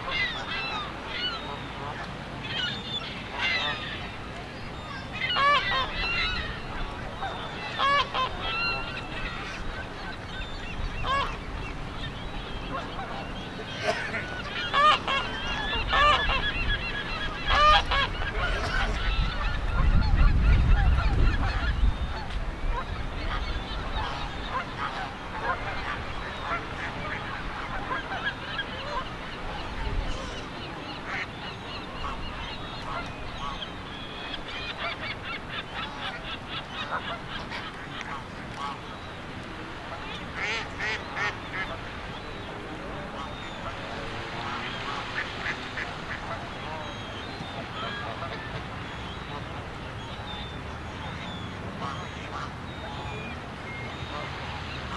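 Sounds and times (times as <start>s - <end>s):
geese honking: 0.0s - 54.9s.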